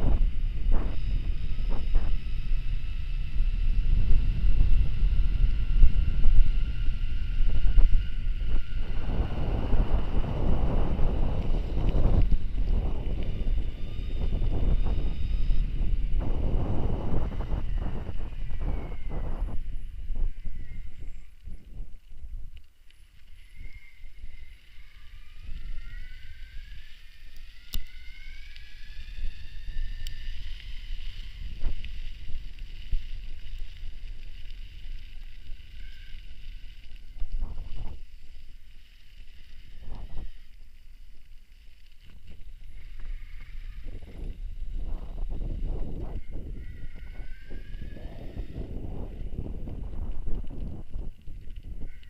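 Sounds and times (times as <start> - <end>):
wind buffeting microphone: 0.0 - 22.6, 23.4 - 38.4, 39.7 - 40.6, 42.1 - 52.0
electric bike motor whining: 0.0 - 52.0.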